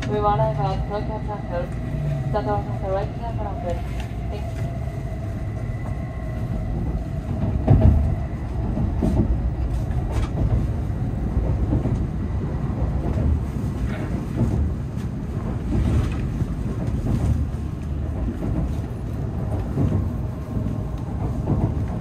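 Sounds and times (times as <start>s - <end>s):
train cabin rumble: 0.0s - 22.0s.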